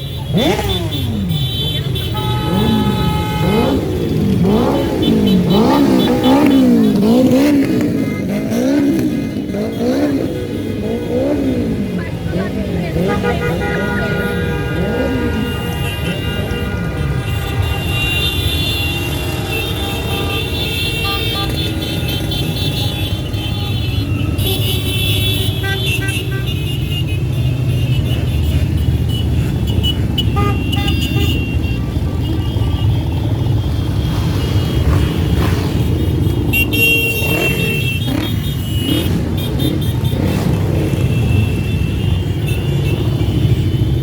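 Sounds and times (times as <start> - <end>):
horns sounding: 0.0 - 44.0
motorcycle engines rumbling: 0.0 - 44.0.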